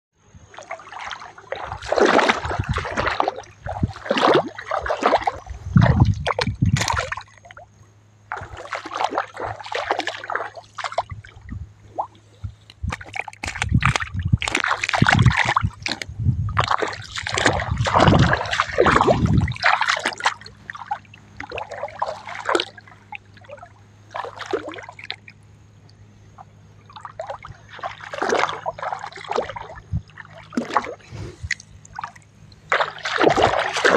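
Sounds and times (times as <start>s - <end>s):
steady low hum: 0.2s - 33.9s
water splashing and sloshing: 0.3s - 33.9s.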